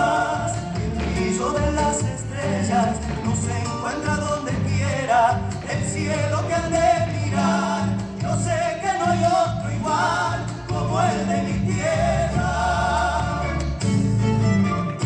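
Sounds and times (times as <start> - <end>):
person singing with vibrato: 0.0 - 13.8
instrumental accompaniment: 0.0 - 15.0.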